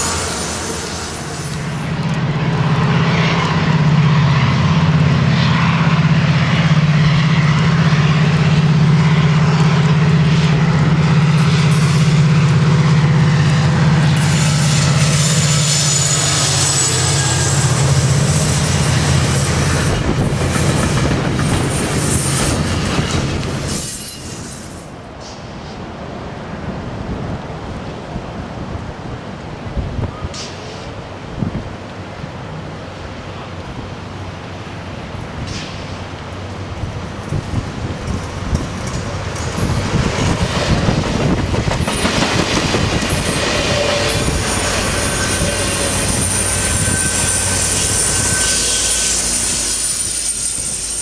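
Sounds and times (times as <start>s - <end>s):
diesel locomotive engine drone: 0.0s - 51.0s
train rumble: 0.0s - 51.0s.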